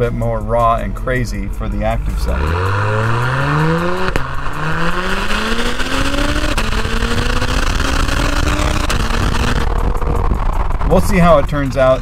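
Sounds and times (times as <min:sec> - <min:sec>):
car exhaust under acceleration: 0:00.0 - 0:12.0
road and wind noise: 0:00.0 - 0:12.0.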